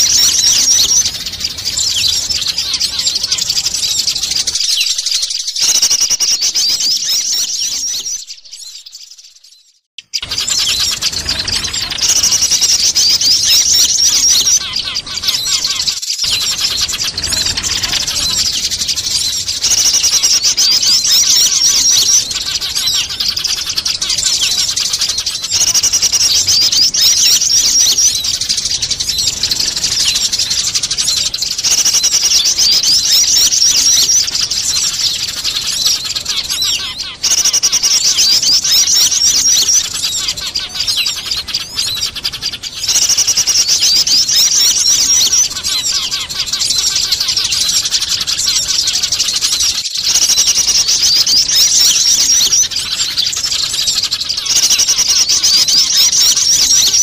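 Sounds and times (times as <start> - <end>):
small birds chattering: 0.0 - 57.0
sparrows squabbling: 0.0 - 57.0.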